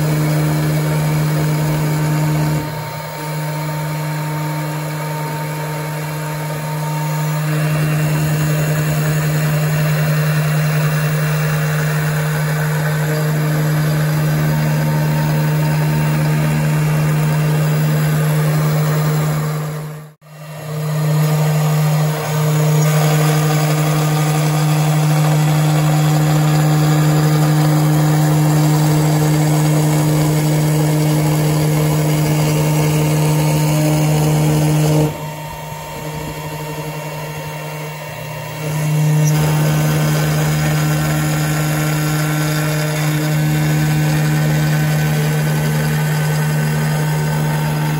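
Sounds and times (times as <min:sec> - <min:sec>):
cnc router spindle humming: 0:00.0 - 0:47.9
engraving bit cutting plexiglass: 0:00.0 - 0:47.9.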